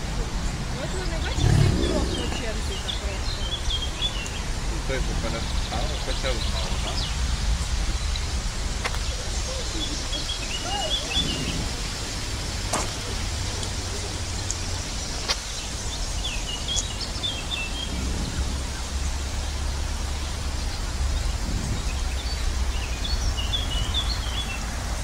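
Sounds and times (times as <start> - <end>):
low rumble and hiss: 0.0 - 25.0
small birds chirping: 0.0 - 25.0.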